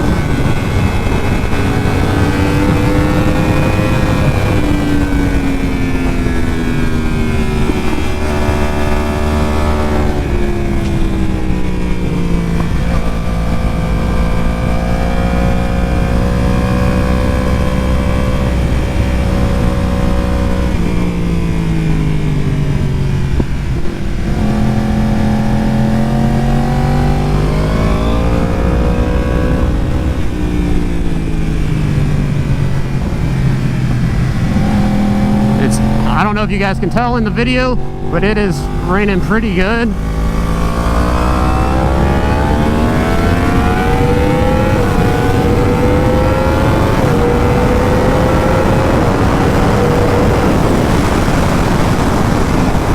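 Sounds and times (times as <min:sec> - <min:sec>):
sport bike engine revving: 0:00.0 - 0:22.4, 0:23.4 - 0:52.9.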